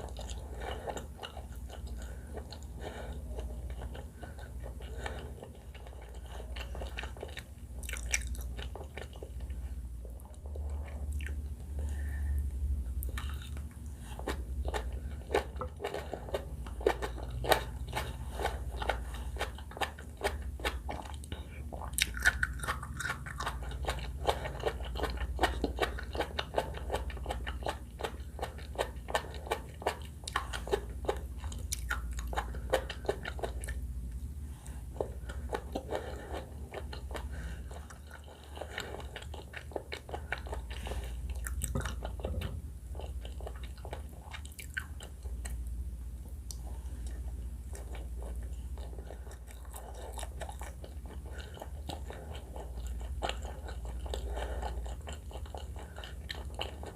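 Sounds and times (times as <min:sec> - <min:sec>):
close chewing with mouth clicks: 0:00.0 - 0:56.9.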